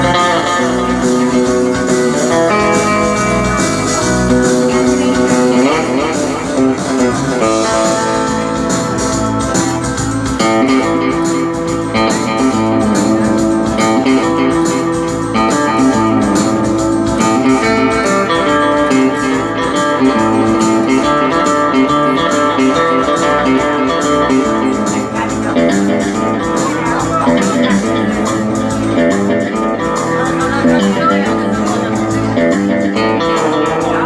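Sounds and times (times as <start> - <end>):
guitar-led band music: 0.0 - 34.0.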